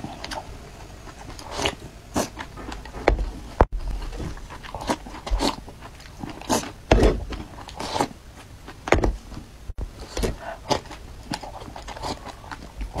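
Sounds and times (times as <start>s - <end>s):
wet chewing: 0.0s - 8.8s, 9.8s - 13.0s.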